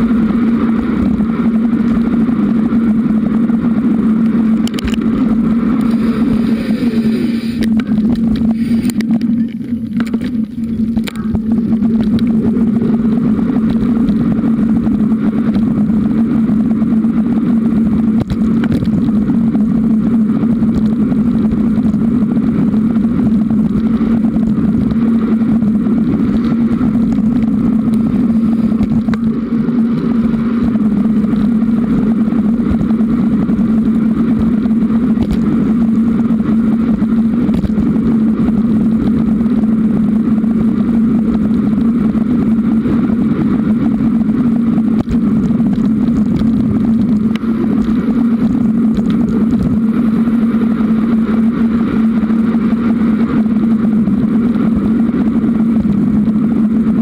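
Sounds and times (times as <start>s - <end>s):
tyres rolling on pavement: 0.0s - 55.8s
low hum: 0.0s - 57.0s
wind noise: 0.0s - 57.0s.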